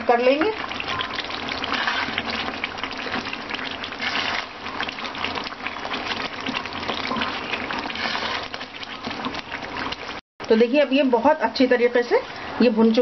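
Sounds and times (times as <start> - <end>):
gravy sizzling and bubbling in oil: 0.0 - 13.0
wooden spatula stirring: 0.2 - 11.0.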